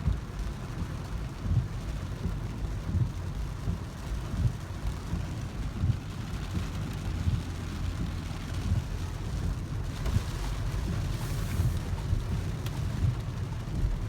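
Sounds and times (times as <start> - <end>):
heavy rain on a car: 0.0 - 14.0
road rumble: 0.1 - 14.0.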